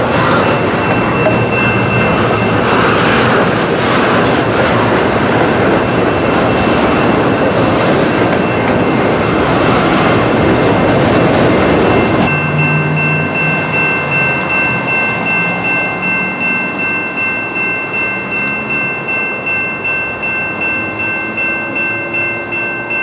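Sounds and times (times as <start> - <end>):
crossing warning bell ringing: 0.0 - 23.0
train rumbling with wheel clatter: 0.0 - 23.0.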